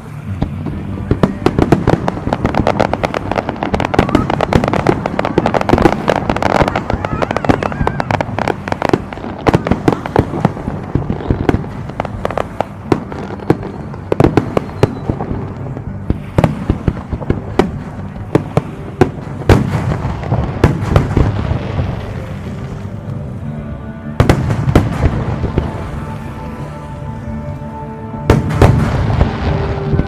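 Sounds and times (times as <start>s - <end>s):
fireworks bangs and cracks: 0.0s - 23.2s, 24.2s - 26.7s, 28.3s - 30.0s.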